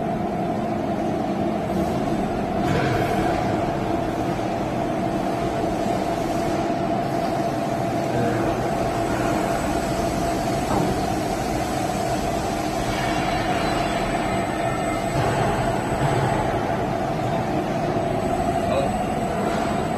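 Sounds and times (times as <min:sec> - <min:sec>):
constant machine whine: 0:00.0 - 0:19.9
machine mechanical hum: 0:00.0 - 0:19.9.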